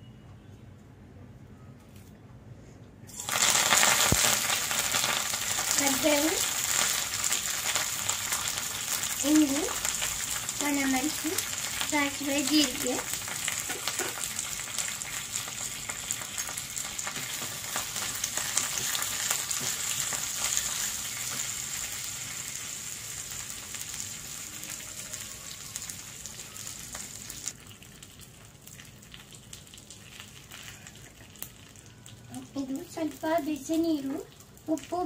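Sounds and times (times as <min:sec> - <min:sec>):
spices sizzling in hot oil: 0:03.1 - 0:35.0.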